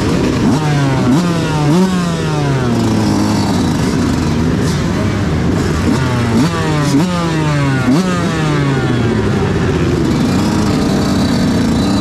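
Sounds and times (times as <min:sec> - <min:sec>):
motocross engine revving: 0:00.0 - 0:12.0
other dirt bike engines: 0:00.0 - 0:12.0.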